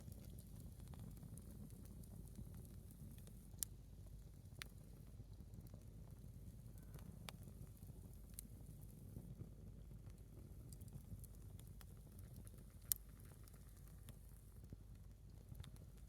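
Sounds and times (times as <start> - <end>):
log burning in fire: 0.0 - 16.0.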